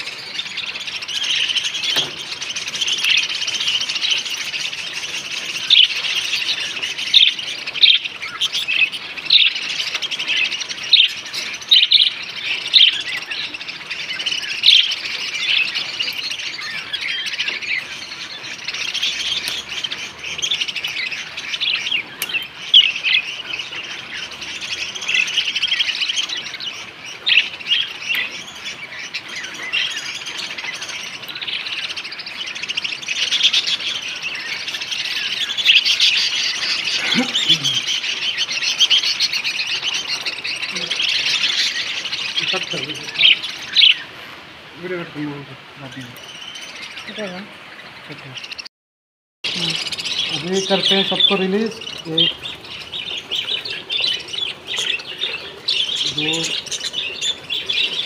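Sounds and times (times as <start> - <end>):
budgerigars chattering and chirping: 0.0 - 48.7, 49.4 - 58.0
sharp bird calls: 0.0 - 48.7, 49.4 - 58.0.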